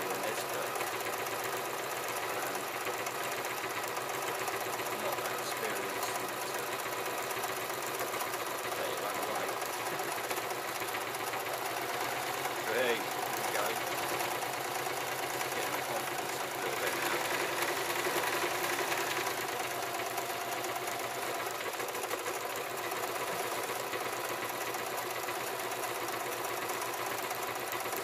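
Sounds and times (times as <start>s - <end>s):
sewing machine stitching: 0.0s - 28.0s.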